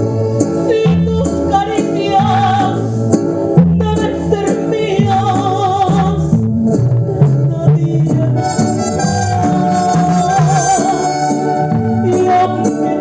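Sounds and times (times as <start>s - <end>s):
band accompaniment: 0.0s - 13.0s
woman singing with vibrato: 0.6s - 13.0s.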